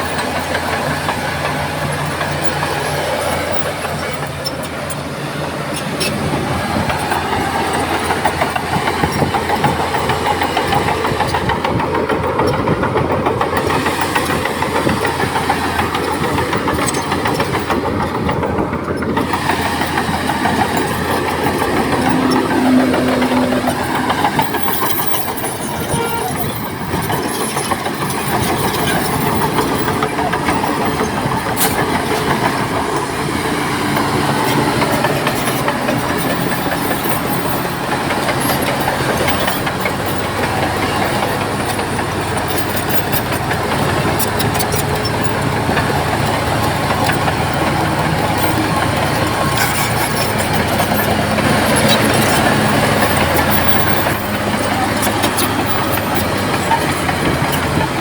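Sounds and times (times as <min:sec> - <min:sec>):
bulldozer diesel engine running: 0:00.0 - 0:58.0
metallic clatter of steel tracks: 0:00.0 - 0:58.0.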